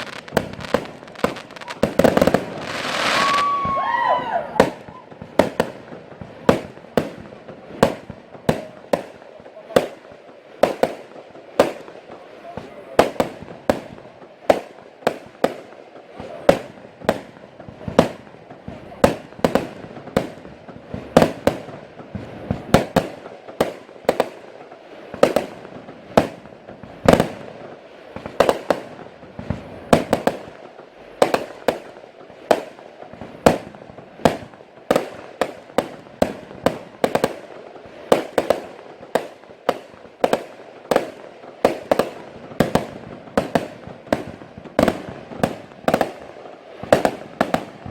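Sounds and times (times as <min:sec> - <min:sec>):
fireworks sharp bangs: 0:00.0 - 0:47.9
steady hiss: 0:00.0 - 0:47.9.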